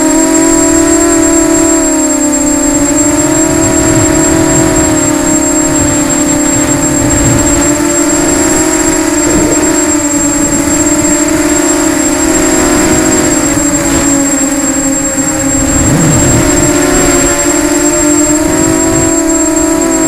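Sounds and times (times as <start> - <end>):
quadcopter motors whining: 0.0 - 20.0
thin high steady tone: 0.0 - 20.0.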